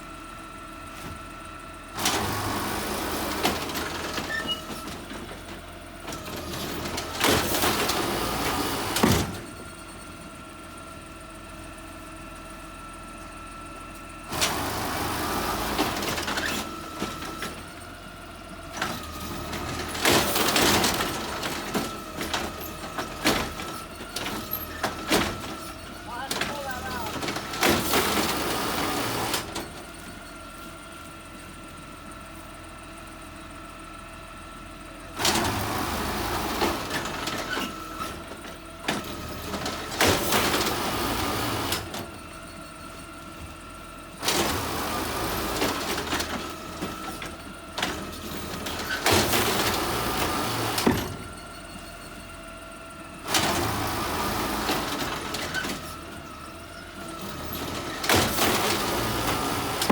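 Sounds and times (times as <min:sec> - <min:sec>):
garbage truck idling: 0:00.0 - 0:59.9
loader noise with knocks: 0:00.8 - 0:10.8, 0:11.5 - 0:33.8, 0:35.0 - 0:59.9.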